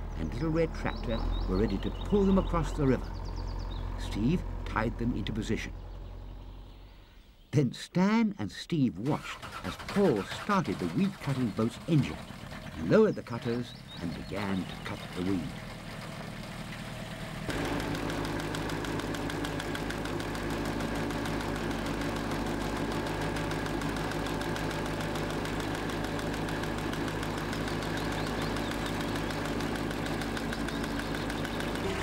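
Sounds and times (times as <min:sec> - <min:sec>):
boat engine running: 0:00.0 - 0:07.0, 0:09.0 - 0:32.0.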